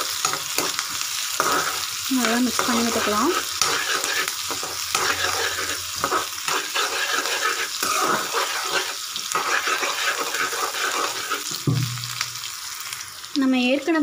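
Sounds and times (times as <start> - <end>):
onions sizzling in hot oil: 0.0 - 14.0
metal spoon scraping pan: 0.1 - 11.6.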